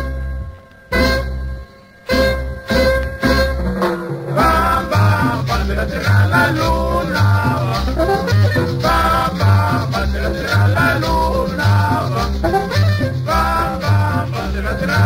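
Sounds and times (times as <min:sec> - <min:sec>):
latin dance music: 0:00.0 - 0:15.0.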